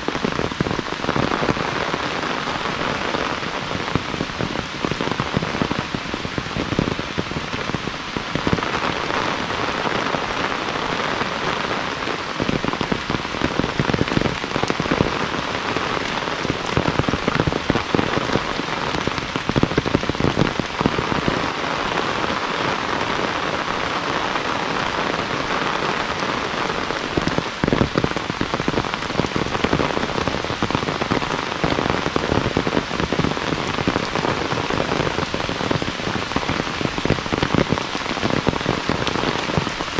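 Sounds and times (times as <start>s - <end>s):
close raindrops striking: 0.0s - 39.9s
heavy rain falling: 0.0s - 39.9s.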